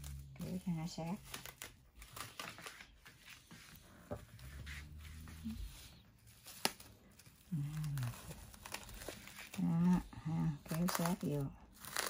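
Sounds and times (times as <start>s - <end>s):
plastic cling wrap crinkling: 0.0s - 3.8s, 4.8s - 12.0s.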